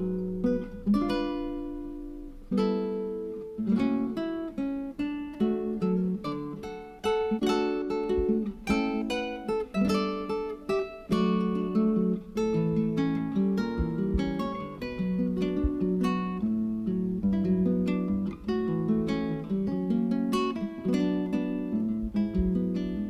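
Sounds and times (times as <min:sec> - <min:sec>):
acoustic guitar plucked and strummed: 0:00.0 - 0:23.0.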